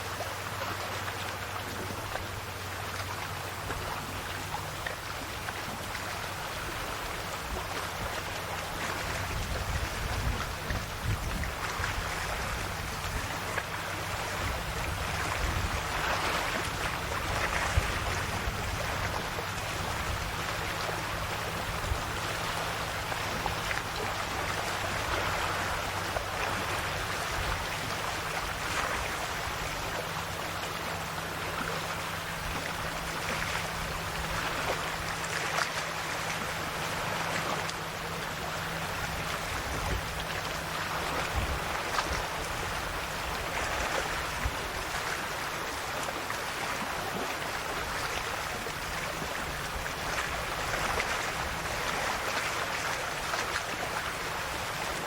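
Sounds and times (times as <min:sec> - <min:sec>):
sea waves lapping on shore: 0:00.0 - 0:55.0
steady low hum: 0:00.0 - 0:55.0.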